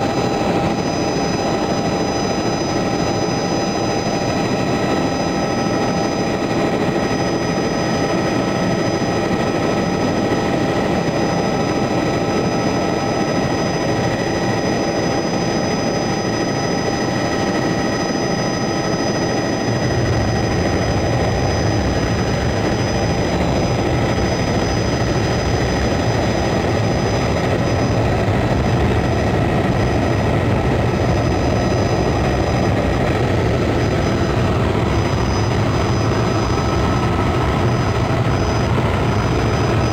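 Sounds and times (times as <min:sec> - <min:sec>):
helicopter engine and rotor: 0:00.0 - 0:39.9
high-pitched engine whine: 0:00.0 - 0:39.9.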